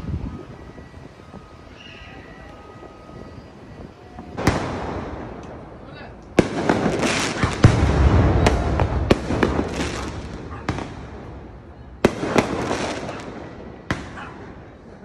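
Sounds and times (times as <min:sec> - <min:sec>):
fireworks crackling: 0:00.0 - 0:15.0
fireworks bangs: 0:02.5 - 0:15.0.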